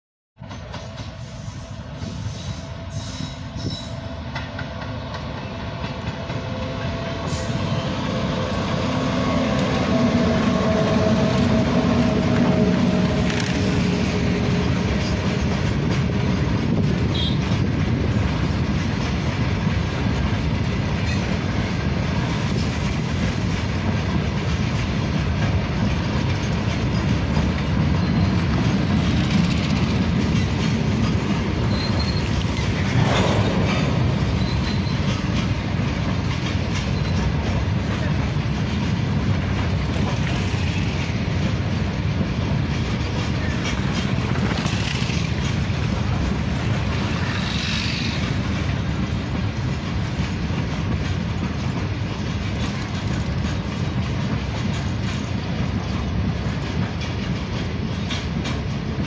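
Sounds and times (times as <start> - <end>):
train wheels running on rails: 0.4 - 59.0.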